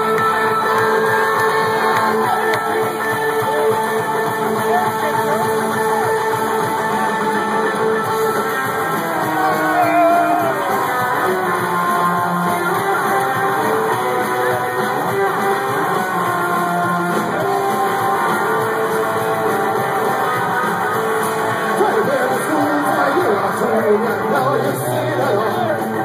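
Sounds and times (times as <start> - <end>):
electric guitar: 0.0 - 26.0
live rock band playing: 0.0 - 26.0.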